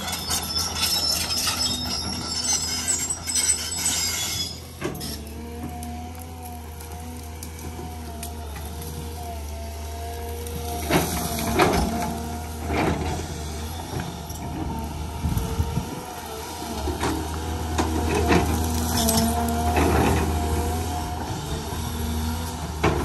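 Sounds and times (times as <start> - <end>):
excavator diesel engine working: 0.0 - 23.0.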